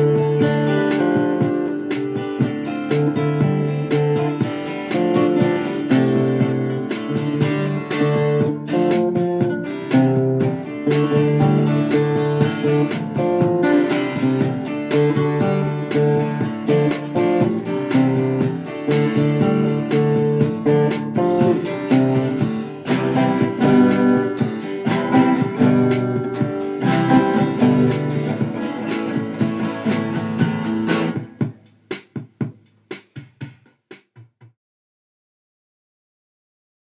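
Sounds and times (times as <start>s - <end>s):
acoustic guitar picking: 0.0s - 31.6s.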